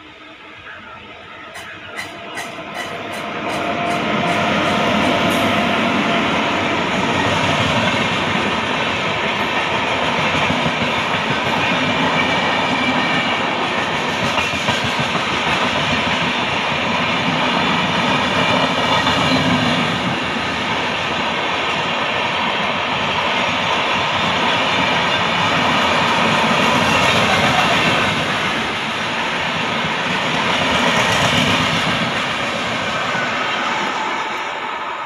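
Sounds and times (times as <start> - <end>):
train wheels rushing on rails: 0.0 - 35.0.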